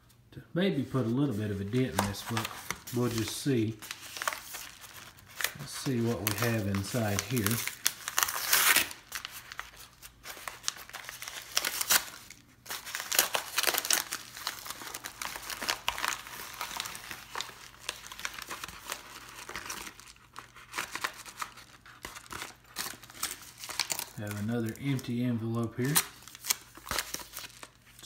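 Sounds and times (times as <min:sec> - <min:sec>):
paper envelope tearing and crumpling: 0:01.0 - 0:28.0.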